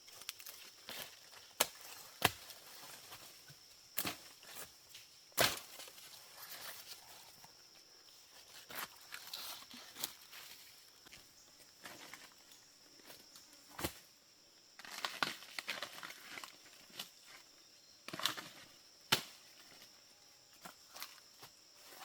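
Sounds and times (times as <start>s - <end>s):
knocks and crackles in undergrowth: 0.0s - 22.0s.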